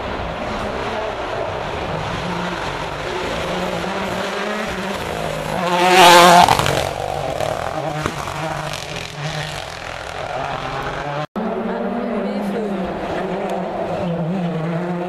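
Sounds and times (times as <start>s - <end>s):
rally car engine passing: 0.0s - 15.0s.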